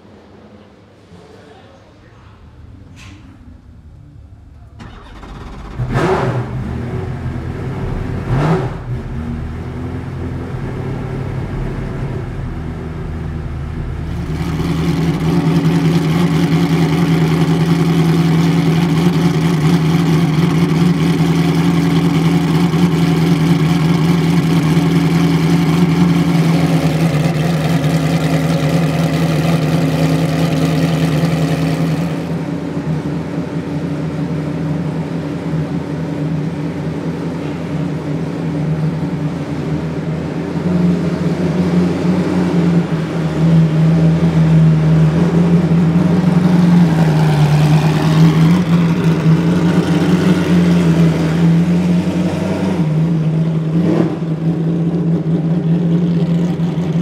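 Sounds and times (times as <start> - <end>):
race car engine idling: 0.0 - 57.0.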